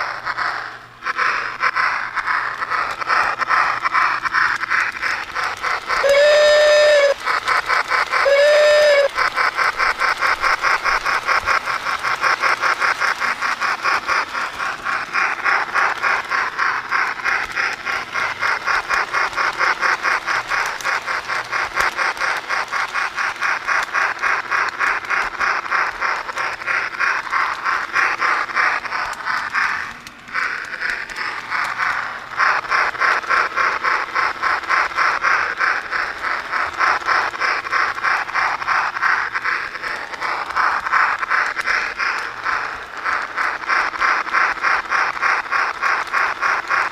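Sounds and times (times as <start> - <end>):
model steam locomotive running: 0.0 - 46.9.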